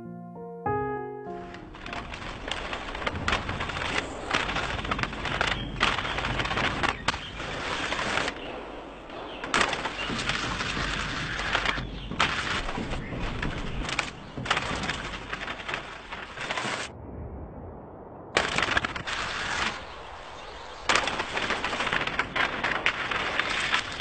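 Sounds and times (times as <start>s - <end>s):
skate wheels rattling on stone: 1.4s - 16.9s, 18.4s - 24.0s.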